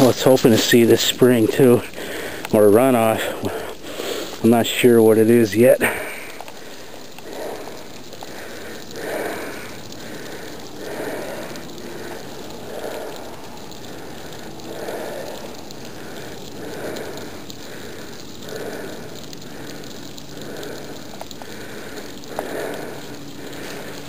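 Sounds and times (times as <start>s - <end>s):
person breathing hard: 1.8s - 2.6s, 3.2s - 4.4s, 5.8s - 24.0s.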